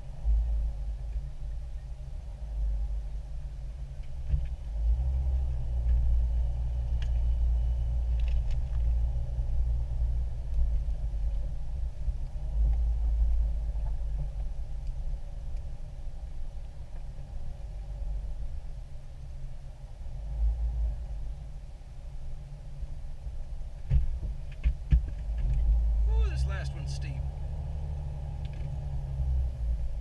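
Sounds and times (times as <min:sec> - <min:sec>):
vehicle engine rumble from inside: 0:00.0 - 0:30.0.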